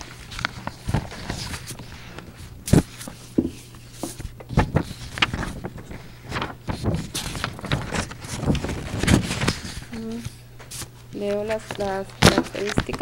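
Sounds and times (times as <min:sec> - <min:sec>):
papers shuffling: 0:00.0 - 0:13.0
steady low hum: 0:00.0 - 0:13.0.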